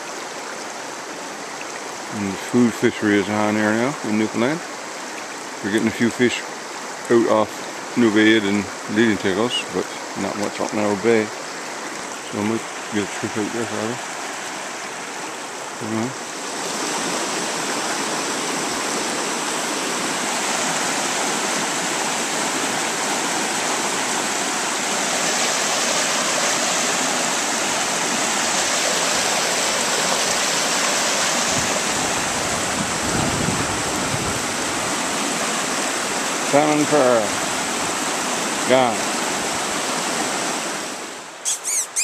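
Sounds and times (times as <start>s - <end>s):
river water rushing over rocks: 0.0s - 42.0s.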